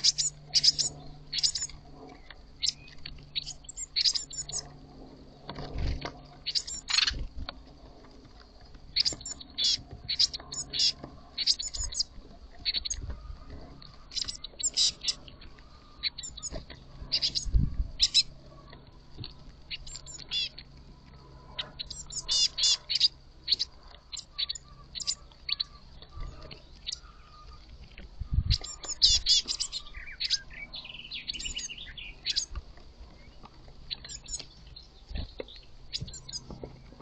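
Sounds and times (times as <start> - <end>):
birds chirping and trilling: 0.0 - 37.0.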